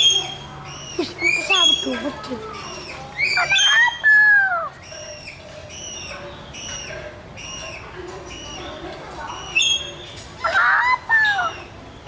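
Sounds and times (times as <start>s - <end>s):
cockatoo calling: 0.0s - 11.8s.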